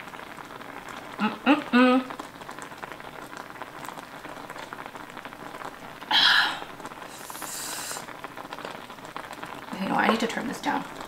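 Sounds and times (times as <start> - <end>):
stew bubbling in a skillet: 0.0 - 11.0.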